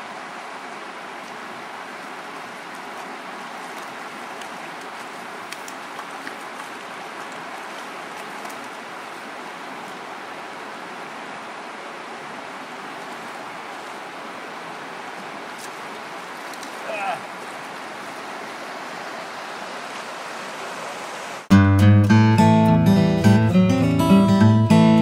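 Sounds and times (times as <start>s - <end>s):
river water flowing over stones: 0.0s - 21.5s.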